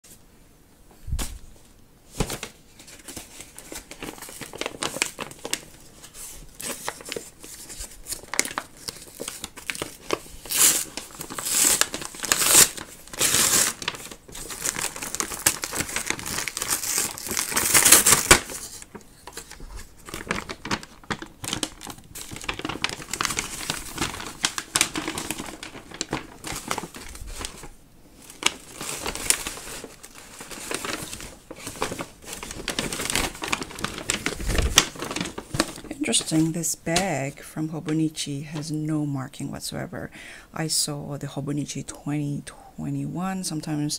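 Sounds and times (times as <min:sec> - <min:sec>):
paper wrapping crinkling and tearing: 0:02.1 - 0:38.7.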